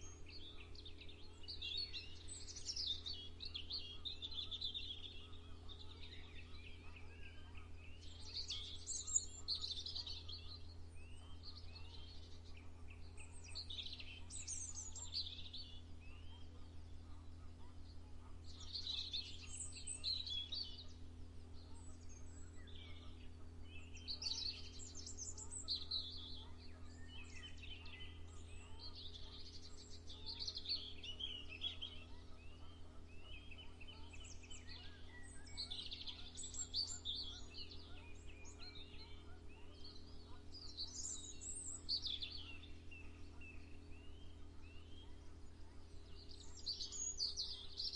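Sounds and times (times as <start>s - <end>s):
small birds chirping and trilling: 0.0s - 47.9s
steady low hum: 0.0s - 47.9s.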